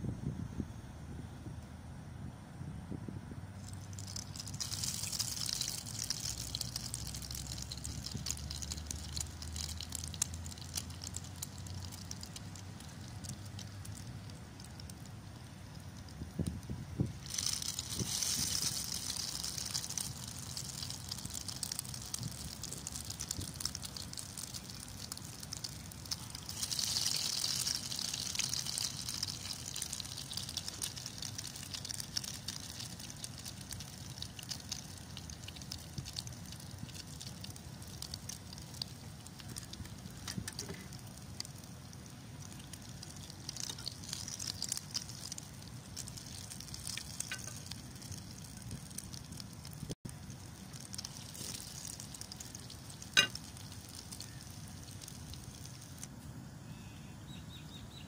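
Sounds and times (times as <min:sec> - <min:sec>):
bread deep-frying in oil: 0:03.5 - 0:56.4.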